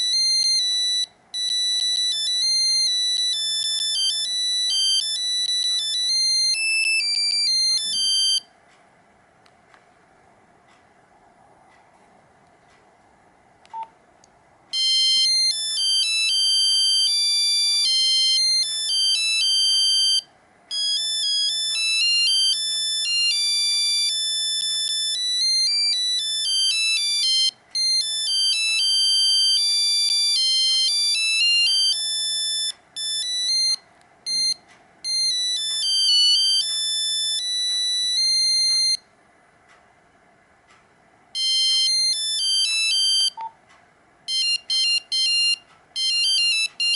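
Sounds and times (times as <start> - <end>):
monophonic ringtone melody: 0.0 - 8.5, 14.7 - 39.0, 41.4 - 43.5, 44.3 - 46.9.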